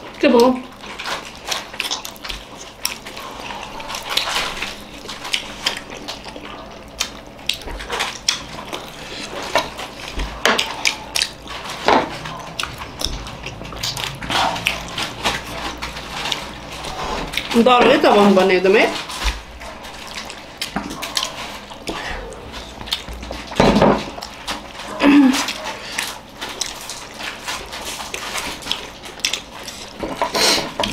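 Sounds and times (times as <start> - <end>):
people chewing and slurping: 0.0 - 30.9.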